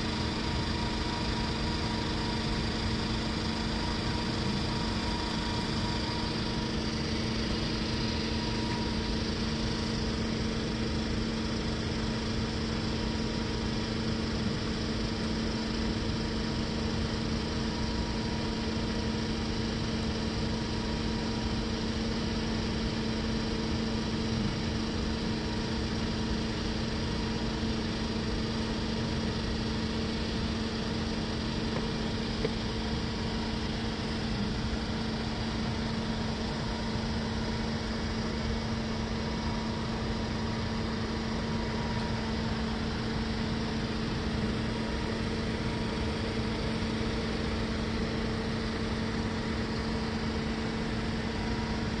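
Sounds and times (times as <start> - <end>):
machine hum: 0.0 - 52.0.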